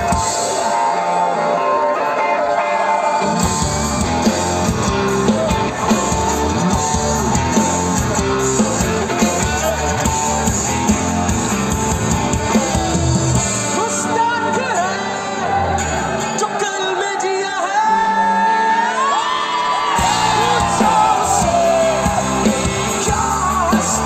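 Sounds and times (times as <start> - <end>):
lead guitar: 0.0 - 24.0
live rock band through pa: 0.0 - 24.0.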